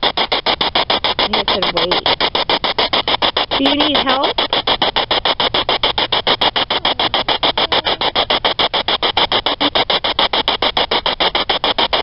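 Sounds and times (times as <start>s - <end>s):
pulsing radio static: 0.0s - 12.0s.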